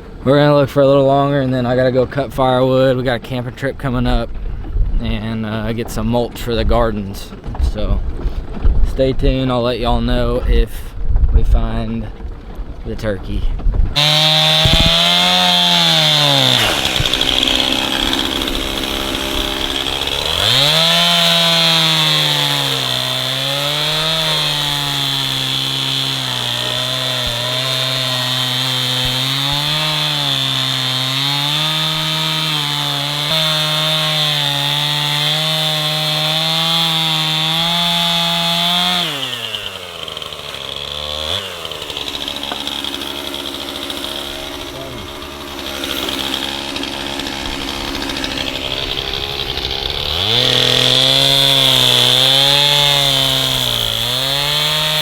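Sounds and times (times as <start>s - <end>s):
chainsaw cutting wood: 2.5s - 11.2s, 12.1s - 55.0s.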